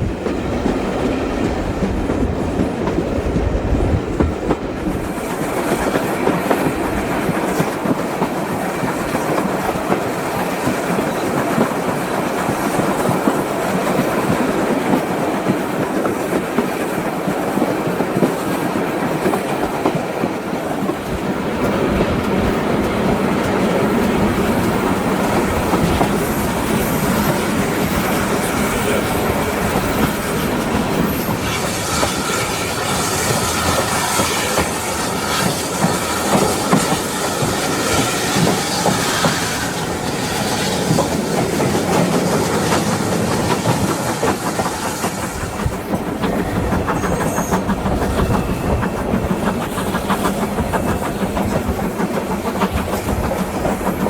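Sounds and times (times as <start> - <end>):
train wheels clattering on track: 0.0 - 54.0.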